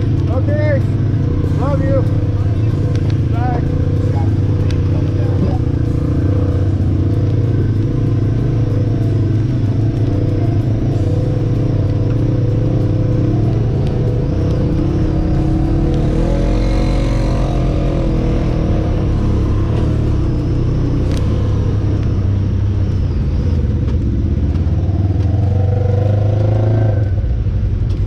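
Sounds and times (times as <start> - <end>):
utility vehicle engine running: 0.0 - 28.0.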